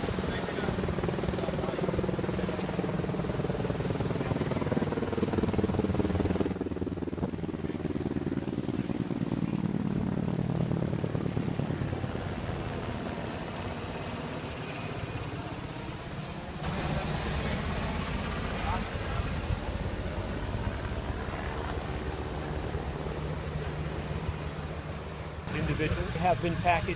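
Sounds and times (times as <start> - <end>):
aircraft engine drone: 0.0 - 26.9.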